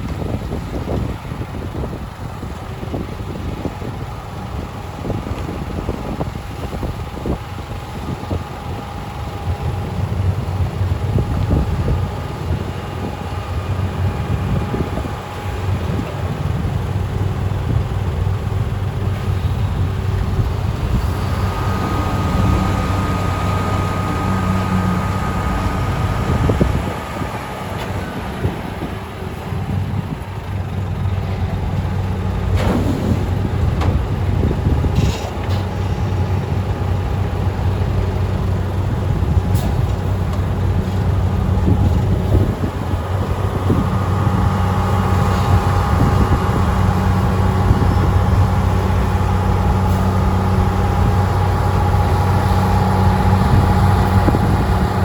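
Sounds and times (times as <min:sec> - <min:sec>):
diesel engines rumbling: 0:00.0 - 0:55.0
wind noise on microphone: 0:00.0 - 0:55.0.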